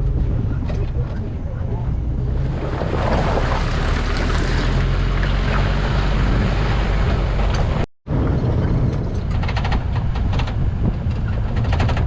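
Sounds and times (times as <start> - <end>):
low rumble: 0.0 - 12.0
wind noise on microphone: 0.0 - 12.0.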